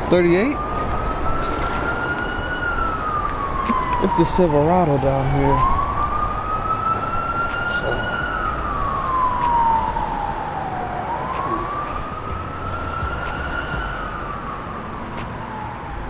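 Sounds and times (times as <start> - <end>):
emergency siren wailing: 0.0 - 16.0.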